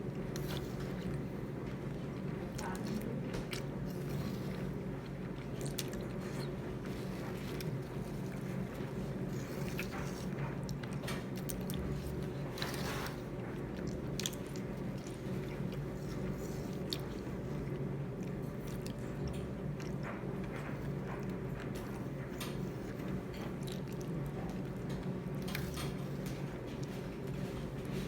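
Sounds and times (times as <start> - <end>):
person chewing: 0.1 - 27.4.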